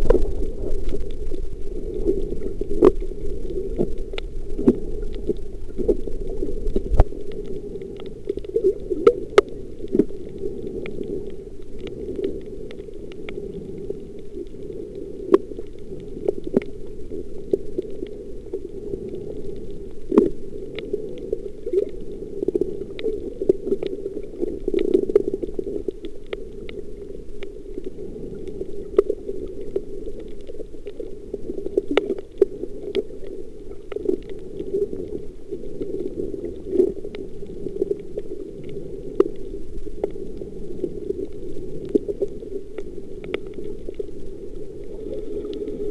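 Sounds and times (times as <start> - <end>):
low underwater rumble: 0.0 - 45.9.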